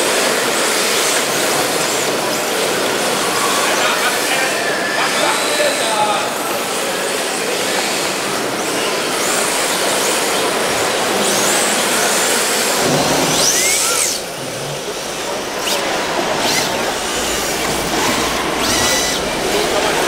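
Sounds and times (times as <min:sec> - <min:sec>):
din of a busy hall: 0:00.0 - 0:20.0
electric rc cars whining: 0:00.0 - 0:20.0.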